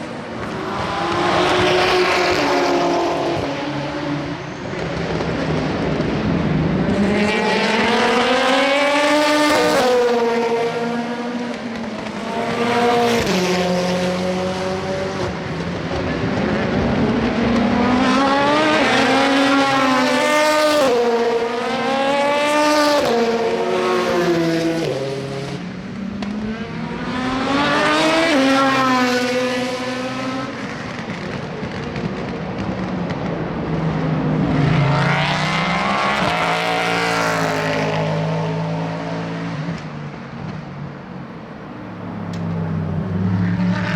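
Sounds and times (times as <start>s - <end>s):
race cars passing: 0.0s - 43.9s.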